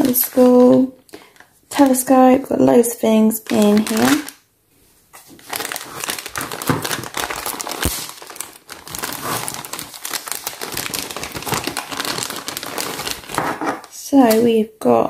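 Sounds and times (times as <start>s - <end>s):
plastic bag crinkling: 0.0s - 4.4s, 5.1s - 14.0s.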